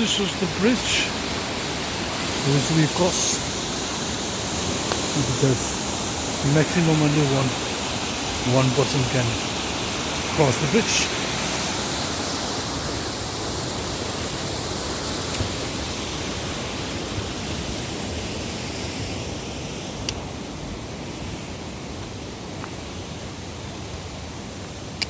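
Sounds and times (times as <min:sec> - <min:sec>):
rushing river water: 0:00.0 - 0:25.0.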